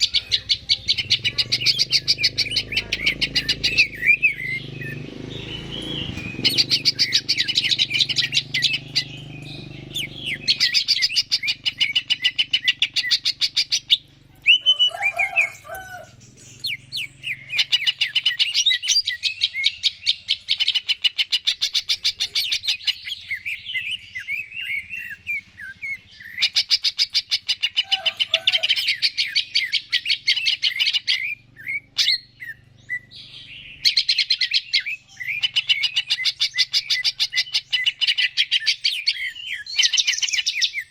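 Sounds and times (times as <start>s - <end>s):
bird singing rapid high notes: 0.0s - 15.4s, 16.2s - 40.9s
lower rough bird calls: 0.0s - 40.9s.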